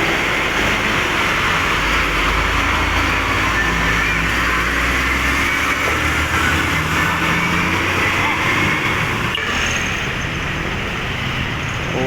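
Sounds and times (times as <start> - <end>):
heavy truck engine rumble: 0.0 - 12.0
road traffic noise: 0.0 - 12.0.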